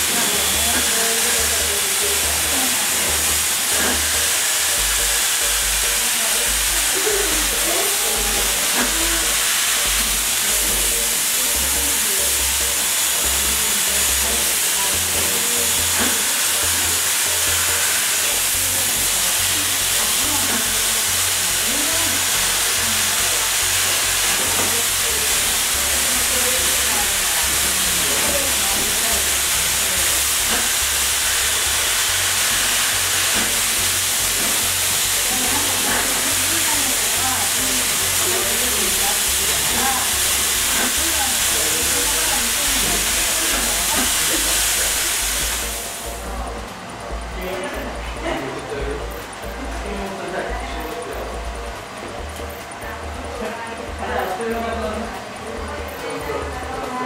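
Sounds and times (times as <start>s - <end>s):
hair dryers blowing: 0.0s - 57.0s.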